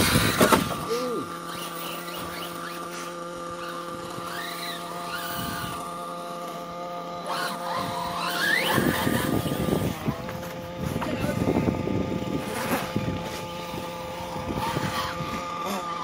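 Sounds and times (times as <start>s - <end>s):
toy truck motor whining: 0.0s - 16.0s.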